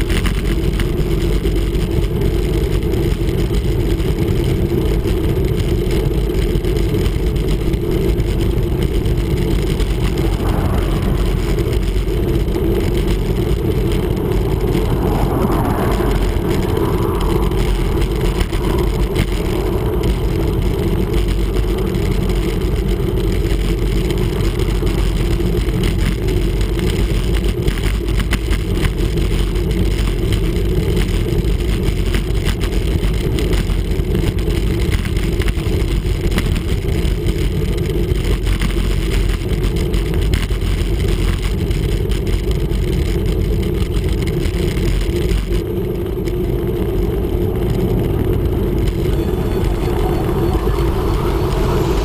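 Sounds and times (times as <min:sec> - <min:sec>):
wind rumbling on microphone: 0:00.0 - 0:52.0.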